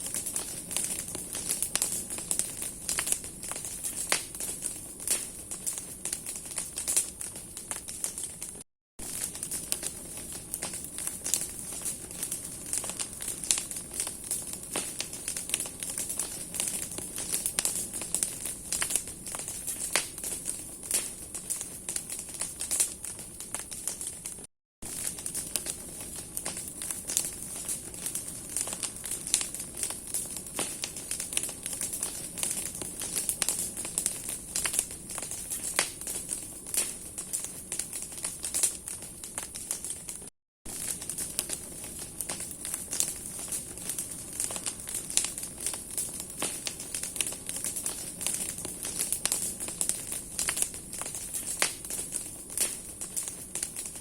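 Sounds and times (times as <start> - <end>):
hiss of flame: 0.0 - 24.1, 24.9 - 40.0, 40.7 - 54.0
bonfire crackling and popping: 0.0 - 54.0.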